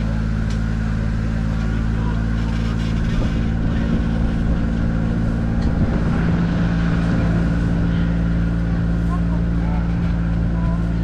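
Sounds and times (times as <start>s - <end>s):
ride-on train engine droning: 0.0s - 11.0s.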